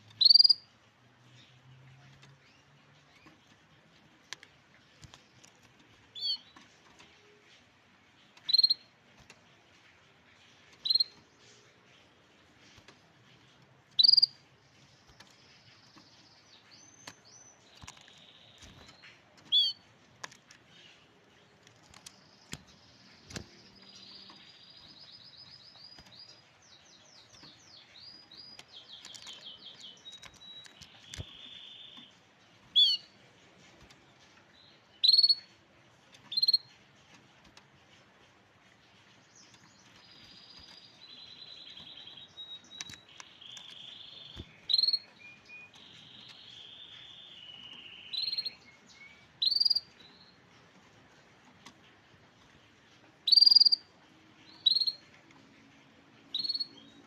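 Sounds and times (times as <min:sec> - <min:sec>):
canary singing trills: 0:00.0 - 0:04.0, 0:04.8 - 0:09.0, 0:09.8 - 0:12.8, 0:13.8 - 0:37.1, 0:38.7 - 0:50.7, 0:52.8 - 0:57.0.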